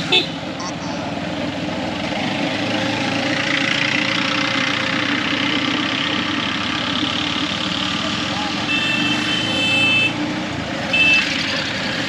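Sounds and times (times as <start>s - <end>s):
road and air noise: 0.0s - 12.0s
vehicle engine running: 0.0s - 12.0s.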